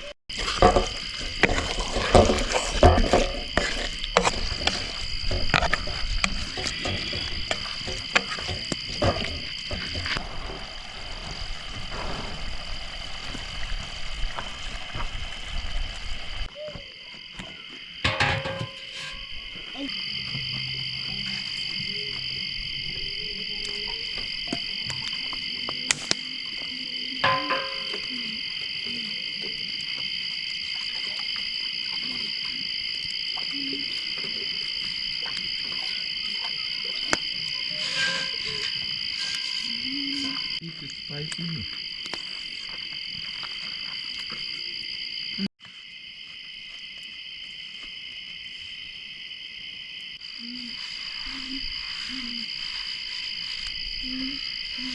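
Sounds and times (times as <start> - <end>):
crickets trilling: 0.0 - 54.9.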